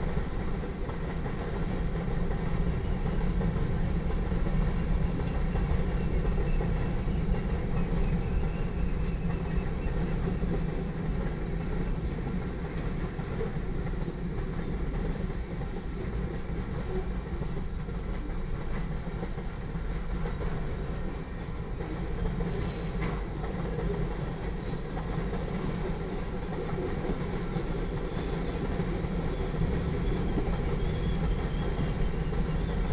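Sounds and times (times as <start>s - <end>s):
steel wheels rumbling on rails: 0.0s - 32.9s.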